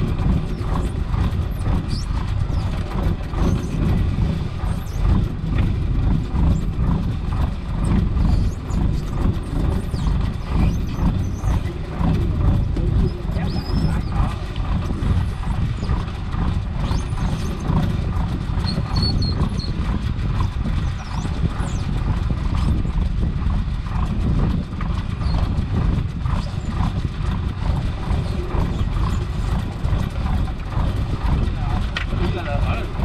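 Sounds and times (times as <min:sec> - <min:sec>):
boat engine rumble: 0:00.0 - 0:33.0.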